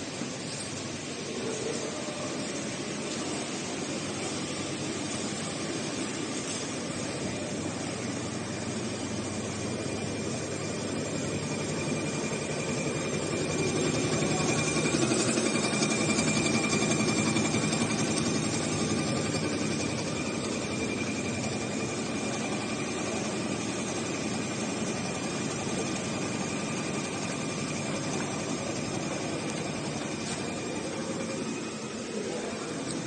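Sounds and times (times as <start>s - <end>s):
thin high whine: 0.0s - 33.0s.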